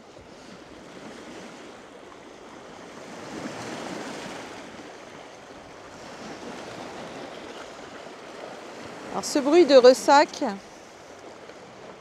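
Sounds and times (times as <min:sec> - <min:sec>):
waves lapping on rocky shore: 0:00.0 - 0:12.0.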